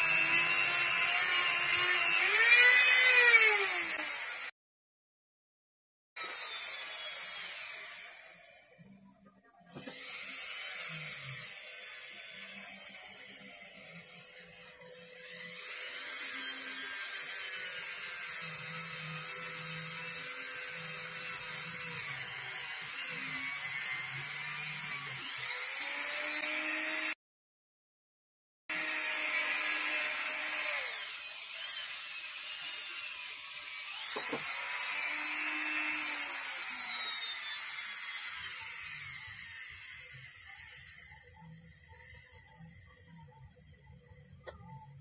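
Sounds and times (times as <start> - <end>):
rotary tool high-pitched whine: 0.0 - 4.6, 6.2 - 27.2, 28.7 - 45.0.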